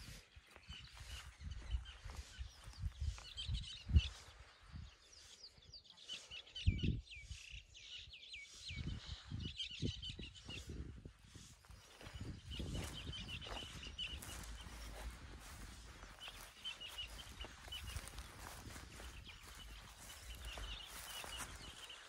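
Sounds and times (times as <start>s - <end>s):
small birds twittering: 0.0s - 22.0s.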